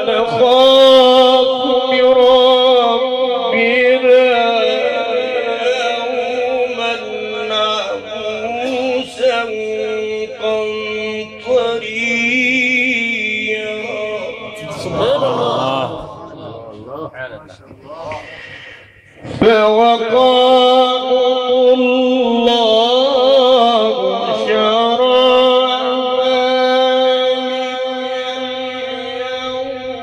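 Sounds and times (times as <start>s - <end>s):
man reciting melodically over loudspeaker: 0.0s - 30.0s.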